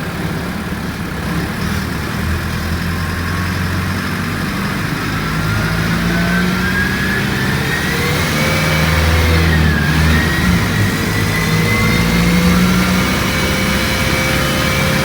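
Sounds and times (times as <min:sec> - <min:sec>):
bus engine running: 0:00.0 - 0:15.0
high whine climbing in pitch: 0:02.4 - 0:15.0.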